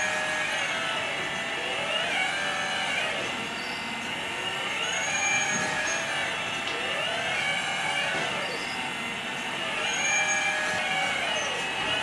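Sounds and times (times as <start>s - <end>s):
hydraulic pumps whining: 0.0s - 12.0s.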